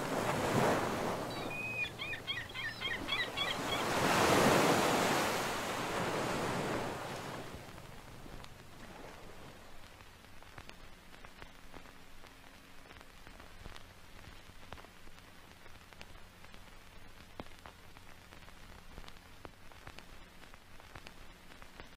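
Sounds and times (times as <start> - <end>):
low steady hum: 0.0 - 21.9
static crackles: 0.0 - 21.9
static hiss: 0.0 - 21.9.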